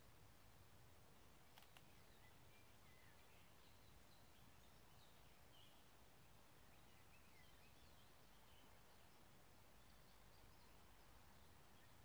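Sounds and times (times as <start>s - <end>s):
steady low hiss: 0.0s - 12.0s
distant small birds chirping: 1.3s - 12.0s.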